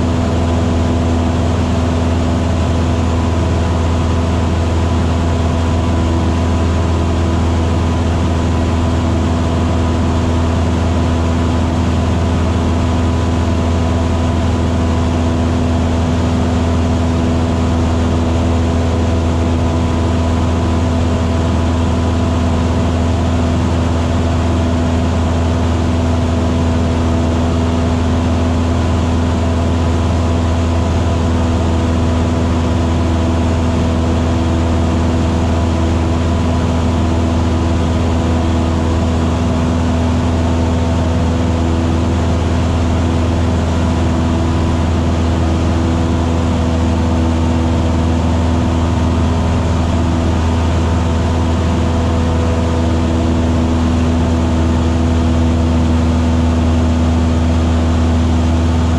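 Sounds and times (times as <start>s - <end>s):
airplane engine droning: 0.0s - 58.9s.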